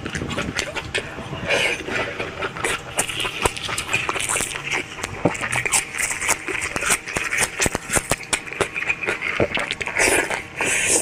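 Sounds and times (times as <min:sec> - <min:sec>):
wet chewing and lip smacks: 0:00.0 - 0:11.0.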